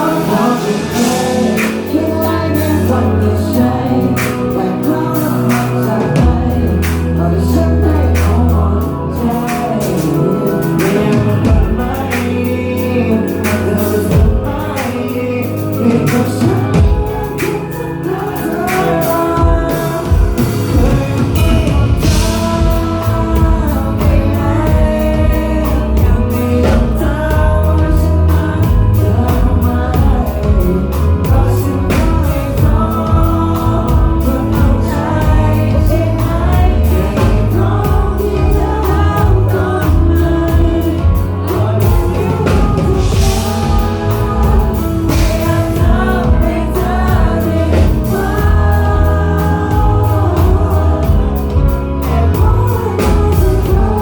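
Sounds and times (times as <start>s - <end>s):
live pop-rock band playing: 0.0s - 54.0s
person singing: 0.0s - 54.0s.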